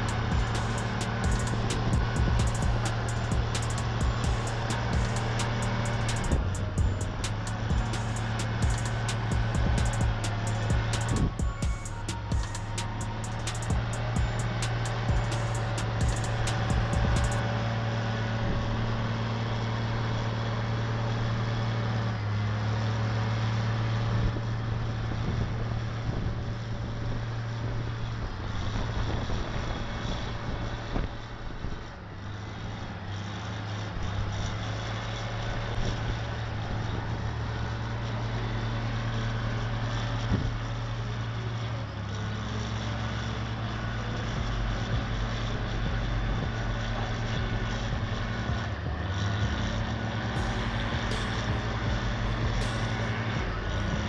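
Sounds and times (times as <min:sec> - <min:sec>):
heavy truck engine running: 0:00.0 - 0:54.0.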